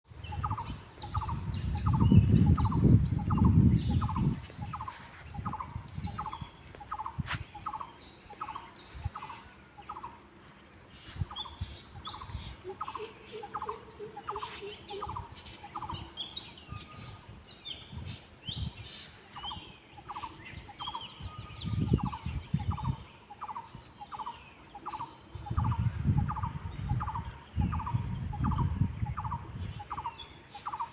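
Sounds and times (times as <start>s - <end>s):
birds chirping and trilling: 0.1s - 30.9s.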